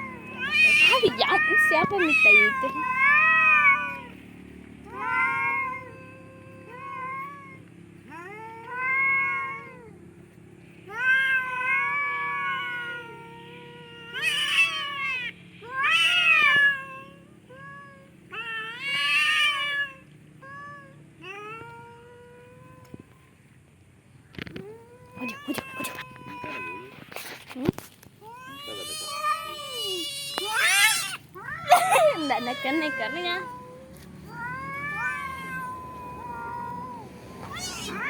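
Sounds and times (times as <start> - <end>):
cats yowling: 0.0 - 10.1, 10.8 - 23.2, 24.4 - 27.1, 28.2 - 38.0.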